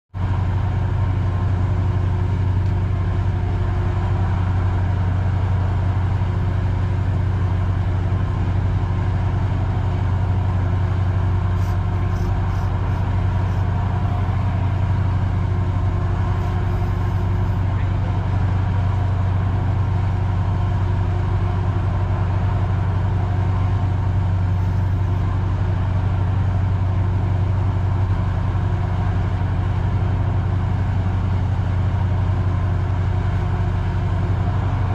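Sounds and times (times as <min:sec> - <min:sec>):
boat engine droning: 0:00.2 - 0:34.9.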